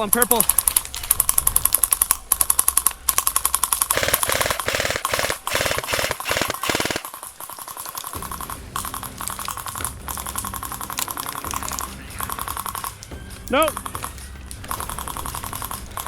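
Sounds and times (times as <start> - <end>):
airsoft gun full-auto bursts: 0.0 - 13.0, 14.7 - 16.0.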